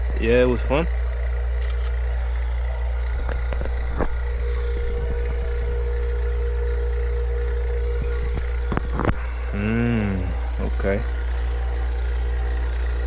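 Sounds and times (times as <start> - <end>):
vacuum pump humming: 0.8 - 13.0.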